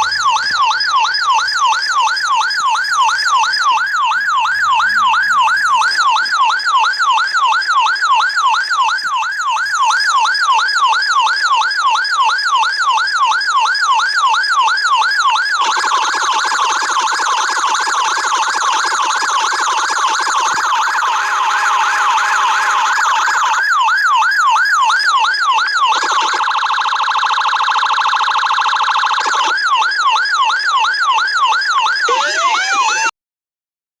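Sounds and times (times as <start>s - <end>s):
police car siren yelping: 0.0s - 33.1s.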